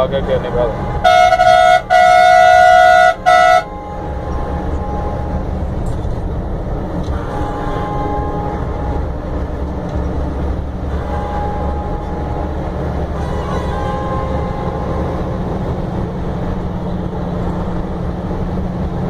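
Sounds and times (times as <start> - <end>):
bus horn blaring: 0.0 - 18.2
bus engine running: 0.0 - 19.0
road noise: 0.0 - 19.0.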